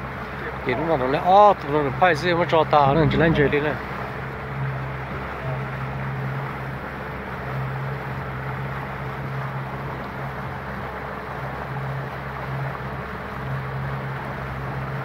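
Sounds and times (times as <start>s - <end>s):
outboard motor humming: 0.0s - 15.0s
wind and water rushing: 0.0s - 15.0s.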